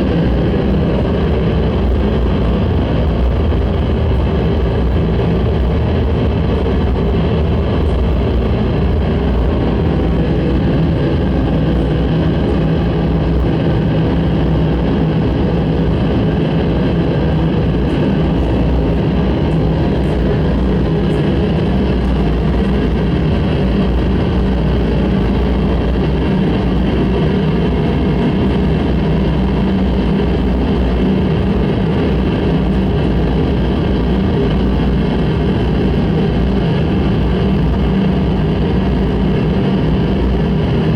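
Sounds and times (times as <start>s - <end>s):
dense electronic noise: 0.0s - 40.9s.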